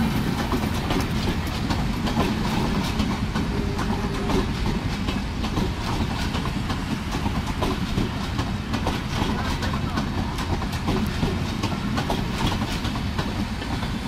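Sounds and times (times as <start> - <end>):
train rumbling on rails: 0.0 - 14.0
wheels clattering over rail joints: 0.0 - 14.0.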